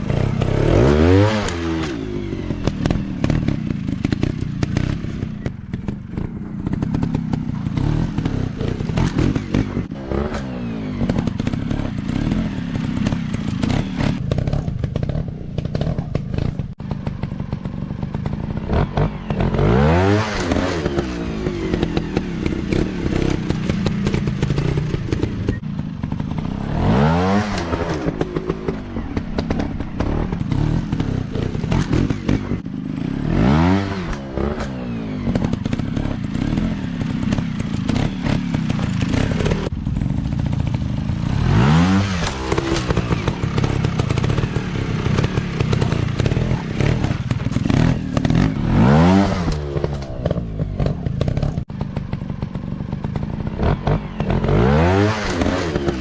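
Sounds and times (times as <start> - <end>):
dirt bike engines running: 0.0 - 56.0
dirt bike revving: 0.0 - 56.0.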